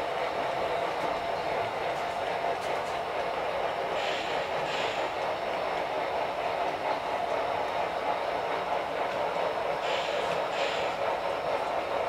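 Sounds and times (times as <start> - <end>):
model train rolling hum: 0.0 - 12.0.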